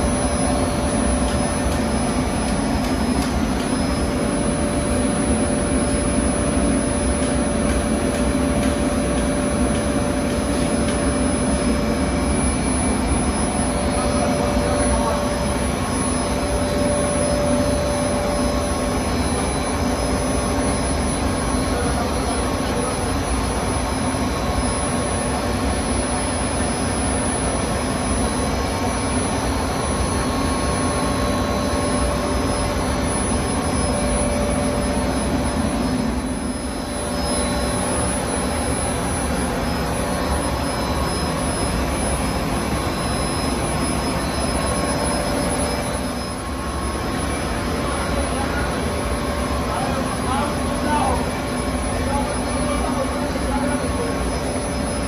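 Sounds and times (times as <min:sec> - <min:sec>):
printing machine whirring: 0:00.0 - 0:55.0.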